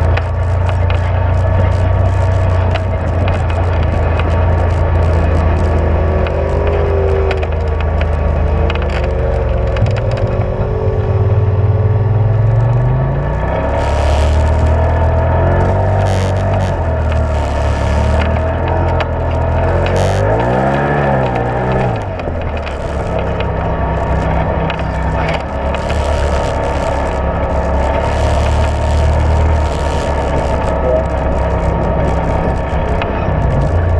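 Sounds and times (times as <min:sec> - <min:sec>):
clicks and rattles from rough ground: 0:00.0 - 0:10.9, 0:12.5 - 0:33.9
utility vehicle engine running: 0:00.0 - 0:33.9.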